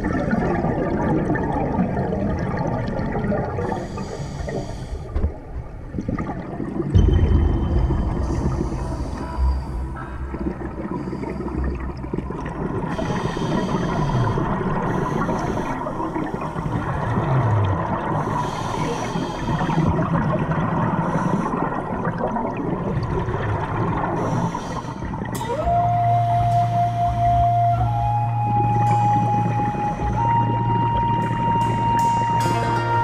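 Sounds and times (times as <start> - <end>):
exhaled bubbles rushing: 0.0 - 4.2, 5.8 - 32.4
steady watery rumble: 0.0 - 33.0.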